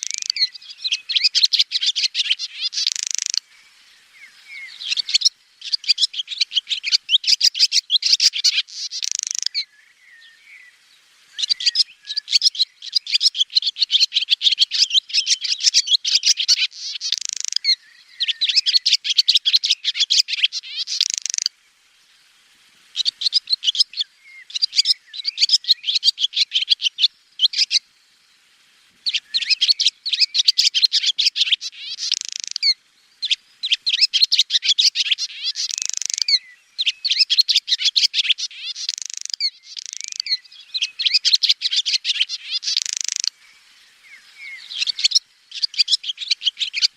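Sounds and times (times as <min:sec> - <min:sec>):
swallow twittering: 0:00.0 - 0:21.6, 0:22.9 - 0:27.8, 0:29.0 - 0:46.9.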